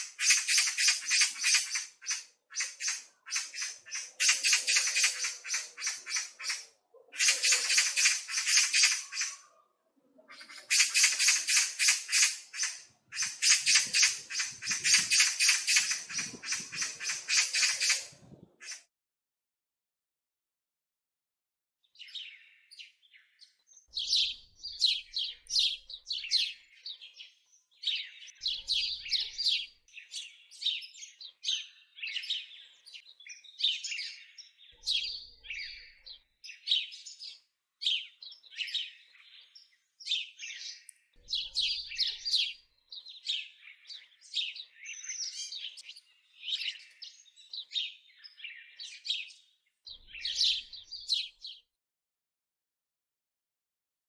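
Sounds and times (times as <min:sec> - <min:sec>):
small birds chirping and trilling: 0:00.0 - 0:18.9, 0:21.8 - 0:51.7.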